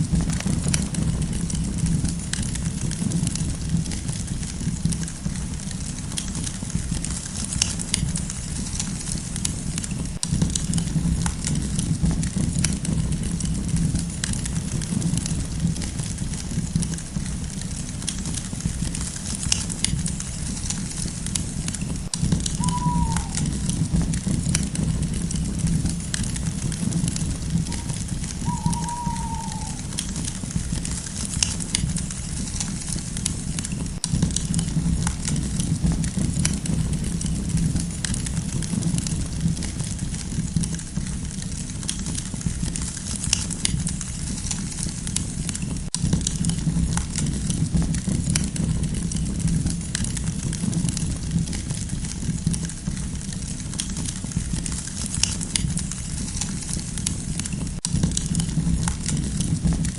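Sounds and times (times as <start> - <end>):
campfire crackling and popping: 0.0 - 59.9
low rumble of burning wood: 0.0 - 59.9.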